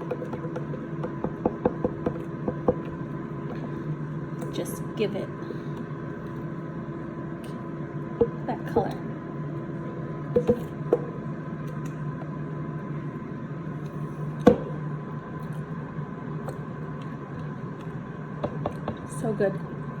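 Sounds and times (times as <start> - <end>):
air fryer fan hum: 0.0 - 20.0.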